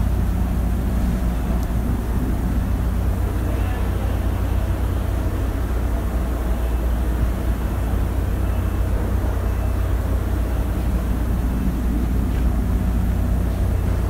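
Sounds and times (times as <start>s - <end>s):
train drone inside coach: 0.0s - 14.0s.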